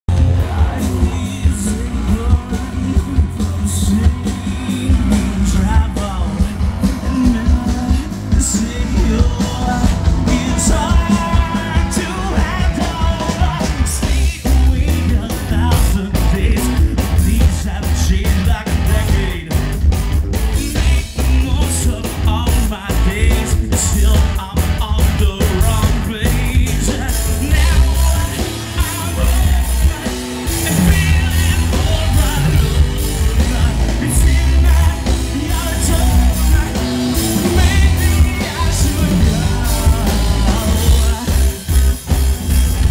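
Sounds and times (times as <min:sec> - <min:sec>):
live rock band playing: 0:00.0 - 0:42.9
person singing into microphone: 0:00.1 - 0:19.6, 0:20.5 - 0:41.9.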